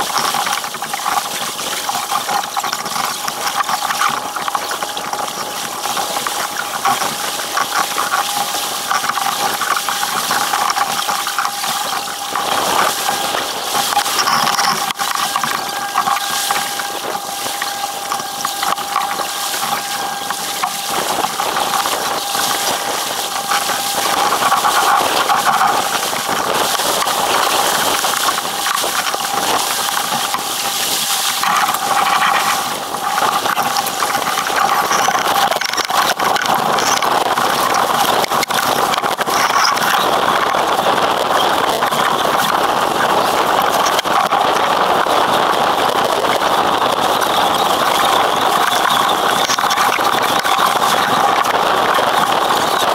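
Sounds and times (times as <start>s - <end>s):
water rushing along hull: 0.0s - 52.9s
wind buffeting microphone: 4.8s - 52.9s.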